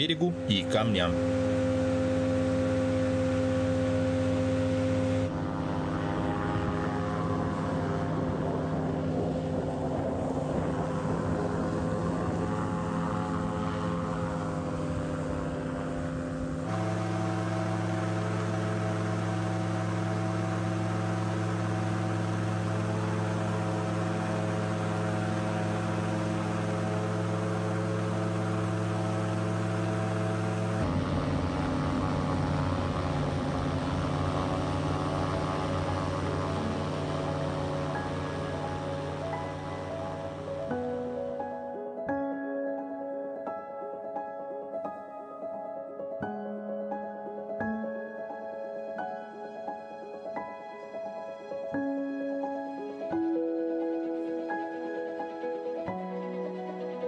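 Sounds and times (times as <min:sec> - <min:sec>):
airboat engine and propeller drone: 0:00.0 - 0:42.0, 0:47.5 - 0:57.0.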